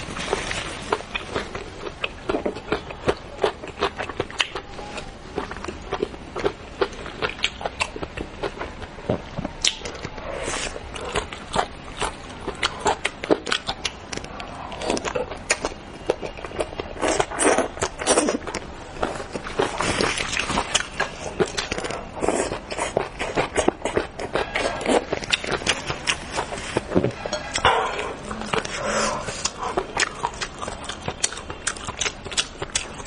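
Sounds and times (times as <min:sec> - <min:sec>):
wet chewing and lip-smacking: 0:00.2 - 0:33.0.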